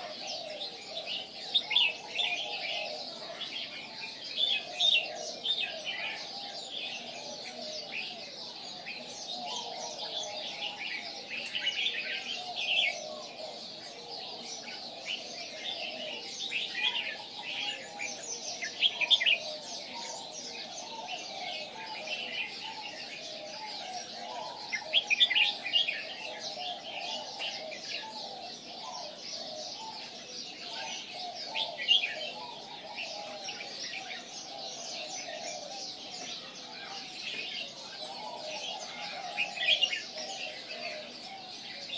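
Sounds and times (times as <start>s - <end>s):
low warbling bird chatter: 0.0s - 41.9s
songbirds chirping: 0.0s - 41.9s.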